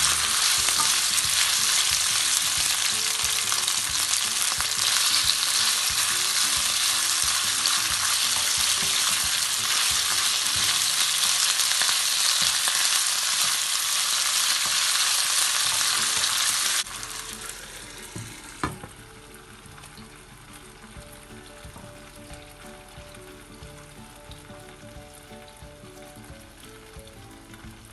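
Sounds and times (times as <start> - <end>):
food sizzling in a hot pan: 0.0 - 27.9.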